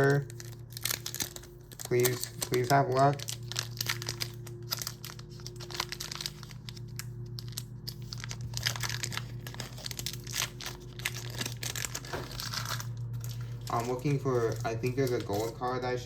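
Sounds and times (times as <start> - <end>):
foil wrapper crinkling and tearing: 0.0 - 16.0.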